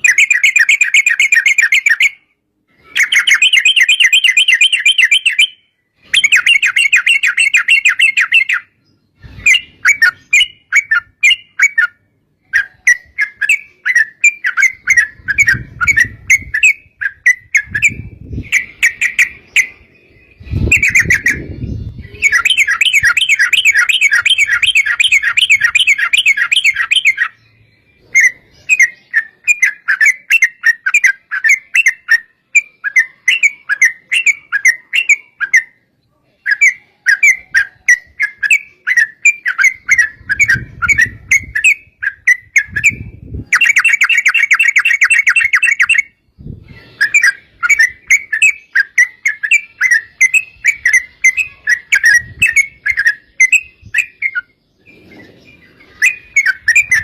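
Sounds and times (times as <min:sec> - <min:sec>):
bulbuls singing trills: 0:00.0 - 0:57.0.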